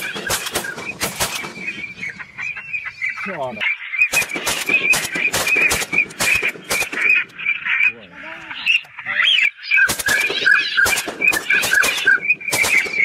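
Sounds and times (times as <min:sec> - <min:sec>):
duck and goose calls: 0:00.0 - 0:13.0.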